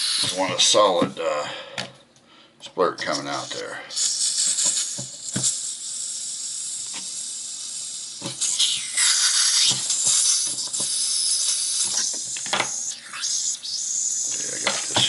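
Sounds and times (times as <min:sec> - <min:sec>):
gas hissing from lighter valve: 0:00.0 - 0:00.8, 0:03.1 - 0:15.0.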